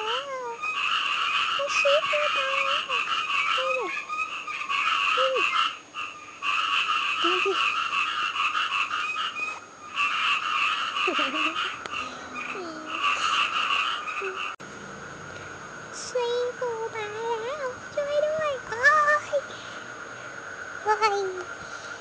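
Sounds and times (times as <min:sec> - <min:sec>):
dense rapid animal pulsing: 0:00.0 - 0:21.6.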